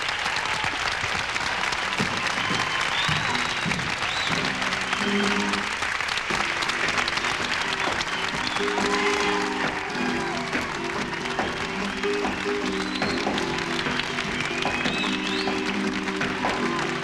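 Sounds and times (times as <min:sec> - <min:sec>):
applause: 0:00.0 - 0:17.0
music with held notes: 0:03.1 - 0:17.0.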